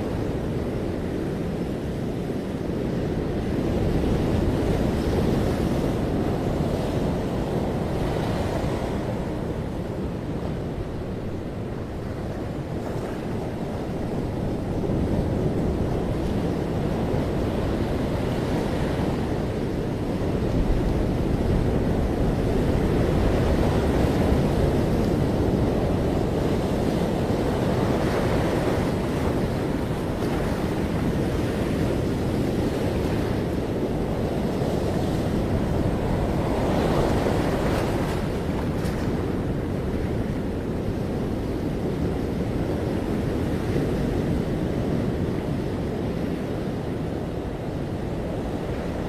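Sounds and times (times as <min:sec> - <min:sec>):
ocean surf washing onto beach: 0:00.0 - 0:49.0
waves breaking: 0:02.6 - 0:49.0.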